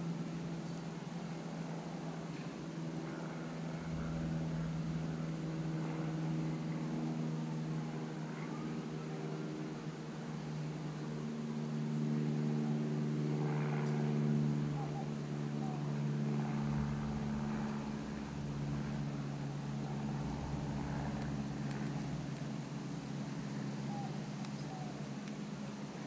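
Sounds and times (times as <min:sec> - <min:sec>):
low motor drone: 0:00.0 - 0:26.0.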